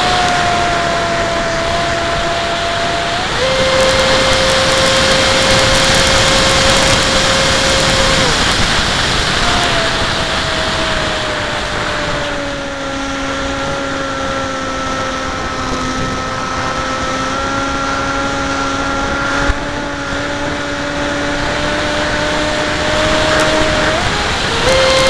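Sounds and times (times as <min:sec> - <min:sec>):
electric motor propeller whining: 0:00.0 - 0:25.0
wind rushing: 0:00.0 - 0:25.0.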